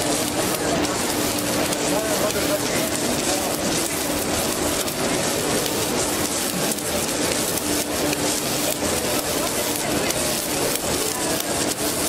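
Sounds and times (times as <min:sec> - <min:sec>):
welding crackling hiss: 0:00.0 - 0:12.0.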